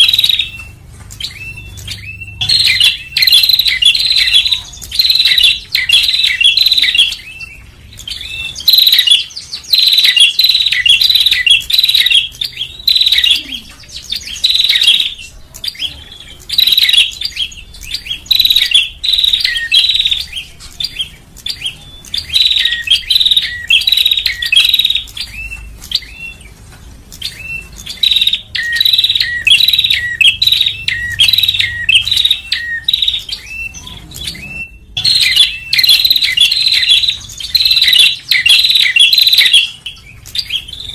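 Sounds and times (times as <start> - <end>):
bird sharp rapid chirps: 0.0 - 40.9.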